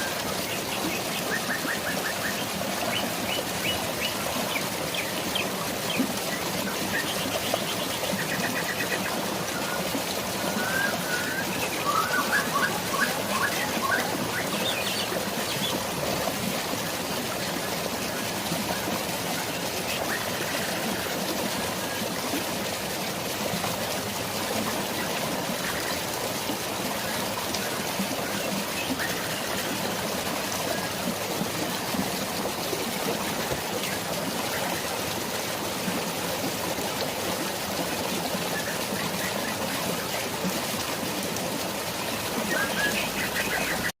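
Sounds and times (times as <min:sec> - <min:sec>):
flowing water splashing: 0:00.0 - 0:44.0.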